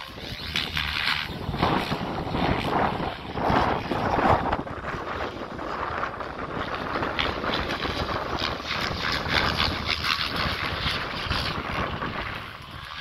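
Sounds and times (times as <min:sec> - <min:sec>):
helicopter rotor blades chopping: 0:00.0 - 0:13.0
wind noise on microphone: 0:00.0 - 0:13.0.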